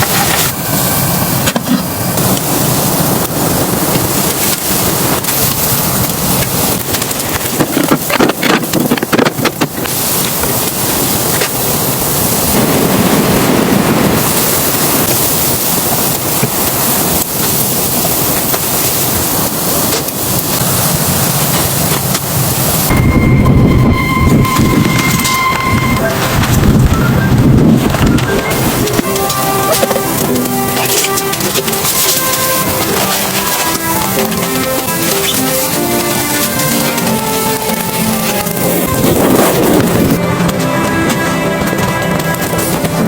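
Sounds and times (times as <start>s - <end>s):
blizzard wind buffeting microphone: 0.0s - 43.0s.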